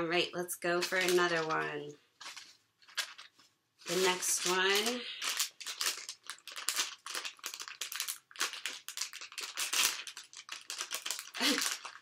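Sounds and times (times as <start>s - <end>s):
foil packet crinkling and tearing: 0.7s - 12.0s.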